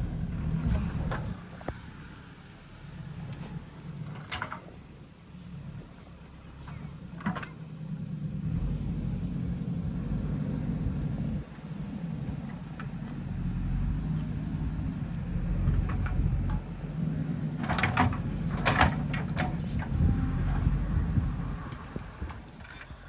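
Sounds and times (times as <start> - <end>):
diesel engine under load: 0.0 - 23.0.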